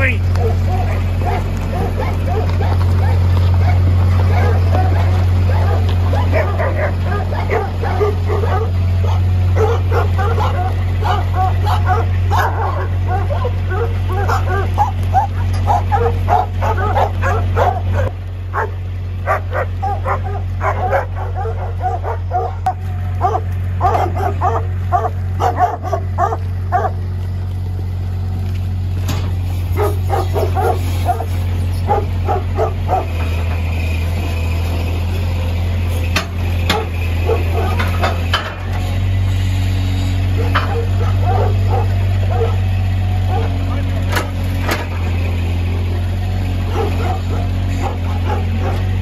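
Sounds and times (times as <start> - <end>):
dogs barking: 0.0 - 27.3, 29.3 - 49.0
tractor engine running: 0.0 - 49.0.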